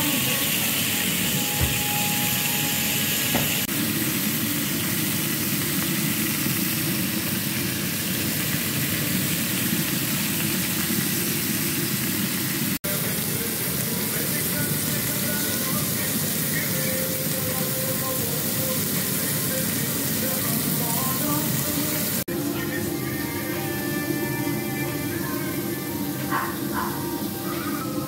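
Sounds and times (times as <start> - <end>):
steaks sizzling in oil: 0.0 - 28.0.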